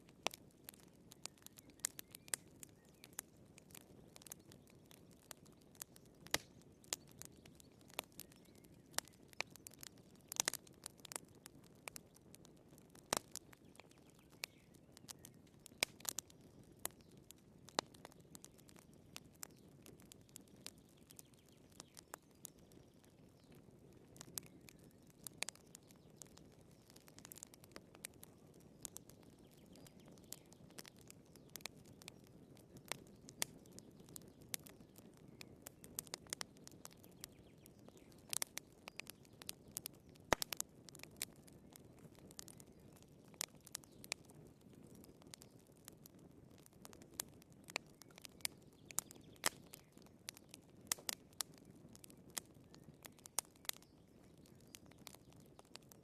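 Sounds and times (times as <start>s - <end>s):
firewood crackling and popping: 0.0s - 56.0s
low steady burning noise: 0.0s - 56.0s.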